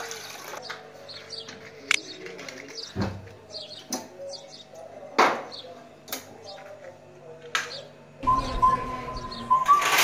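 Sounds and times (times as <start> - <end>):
small birds chirping: 0.6 - 9.6.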